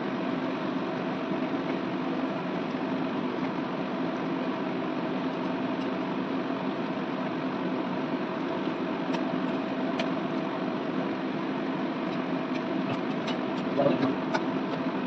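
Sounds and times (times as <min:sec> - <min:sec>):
kitchen machine hum: 0:00.0 - 0:15.0.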